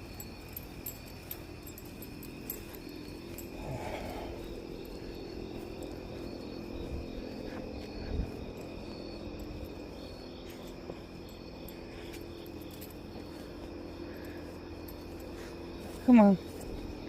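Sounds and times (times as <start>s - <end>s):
insects chirping: 0.0s - 17.0s
low hum and rumble: 0.0s - 17.0s.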